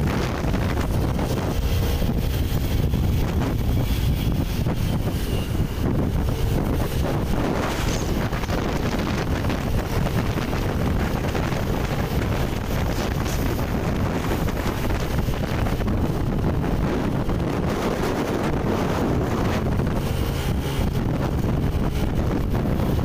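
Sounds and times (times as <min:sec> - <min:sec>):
engine and tyres rumbling: 0:00.0 - 0:23.0
wind buffeting microphone: 0:00.0 - 0:23.0.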